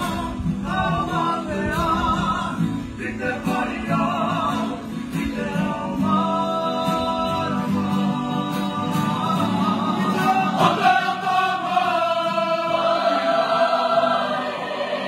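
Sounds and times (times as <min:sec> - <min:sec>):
group singing together: 0:00.0 - 0:15.0.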